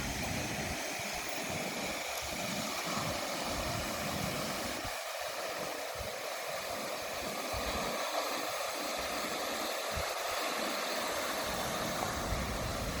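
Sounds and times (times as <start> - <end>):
waves breaking on a beach: 0.0 - 13.0.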